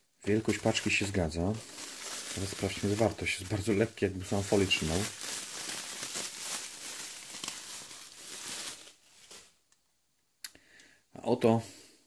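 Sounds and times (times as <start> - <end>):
bubble wrap crinkling: 0.0 - 9.7.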